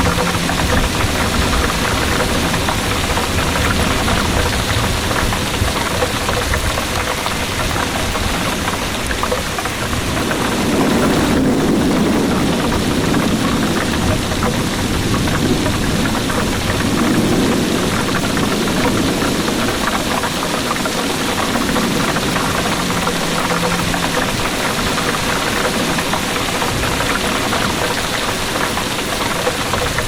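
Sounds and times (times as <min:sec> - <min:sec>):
distant thunder rumbling: 0:00.0 - 0:30.0
heavy rain falling: 0:00.0 - 0:30.0.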